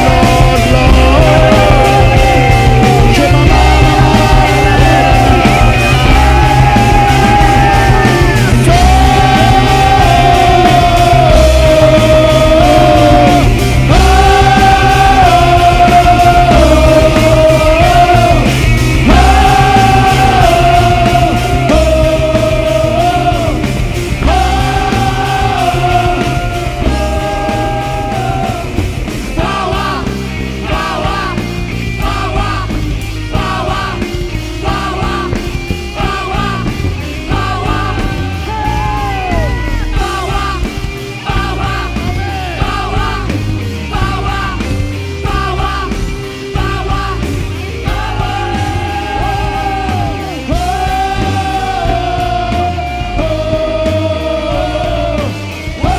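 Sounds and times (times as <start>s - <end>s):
live band playing rock music: 0.0s - 55.9s.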